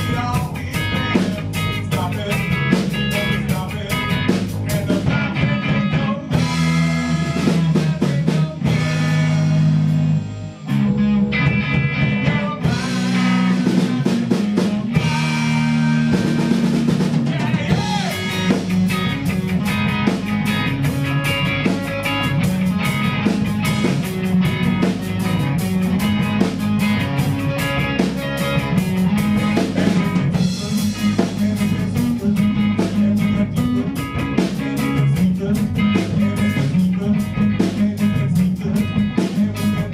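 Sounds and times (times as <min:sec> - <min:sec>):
drum kit steady beat: 0:00.0 - 0:10.8, 0:11.5 - 0:39.9
bass notes: 0:00.0 - 0:39.9
guitar chords: 0:00.0 - 0:39.9.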